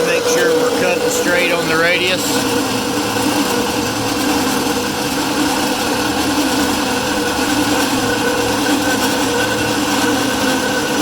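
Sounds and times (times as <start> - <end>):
bandsaw cutting metal: 0.0 - 11.0.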